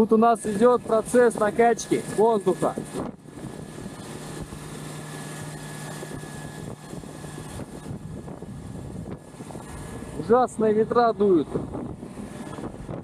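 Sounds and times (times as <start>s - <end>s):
diesel engine running: 0.0s - 13.0s
steady low hum: 0.0s - 13.0s
wind noise on microphone: 0.0s - 13.0s.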